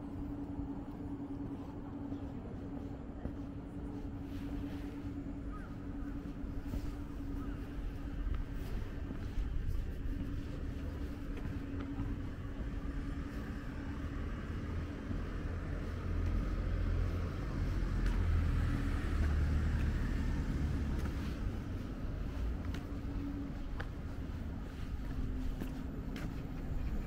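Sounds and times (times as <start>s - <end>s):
low hum and rumble: 0.0s - 27.0s.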